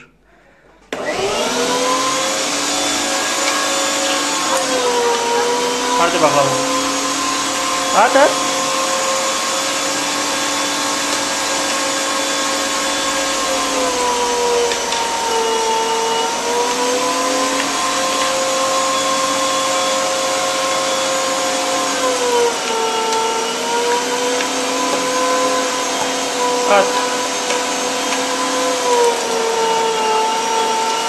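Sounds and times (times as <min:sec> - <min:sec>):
electric meat grinder whining: 0:00.9 - 0:31.0.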